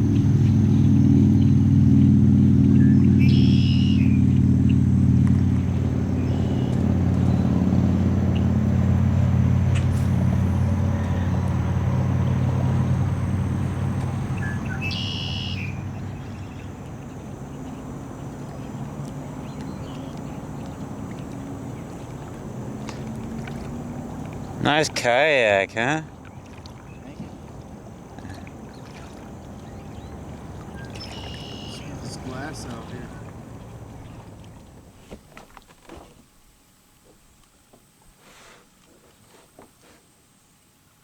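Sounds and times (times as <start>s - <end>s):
motorboat engine running: 0.0s - 41.0s.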